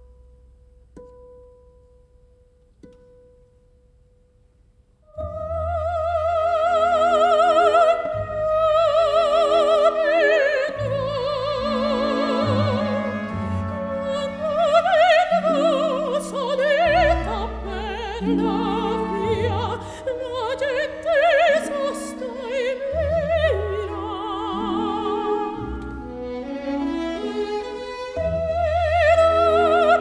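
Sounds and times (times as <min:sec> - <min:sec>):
operatic soprano singing: 0:05.1 - 0:30.0.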